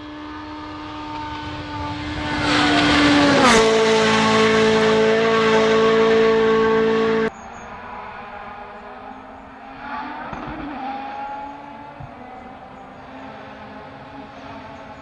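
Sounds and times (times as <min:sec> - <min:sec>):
race car engine flat out: 0:00.0 - 0:15.0.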